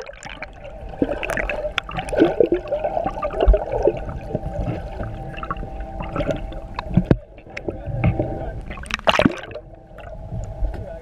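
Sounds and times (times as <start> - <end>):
steady hum: 0.0 - 11.0
water bubbling and gurgling underwater: 0.0 - 11.0.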